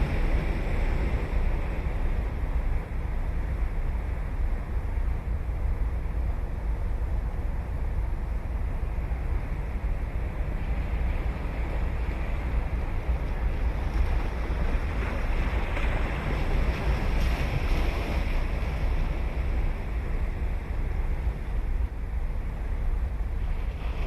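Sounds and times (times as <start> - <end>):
ocean surf on sandy beach: 0.0 - 24.0
wind rumble on microphone: 0.0 - 24.0.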